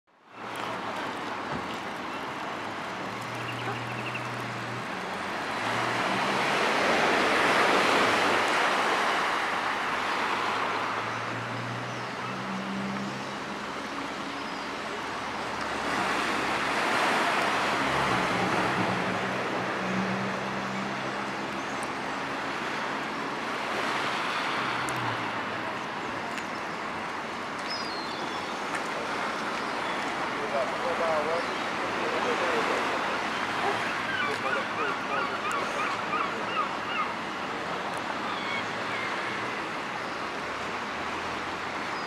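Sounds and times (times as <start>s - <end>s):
road traffic hum: 0.2s - 42.0s
sea waves washing on shore: 0.2s - 42.0s.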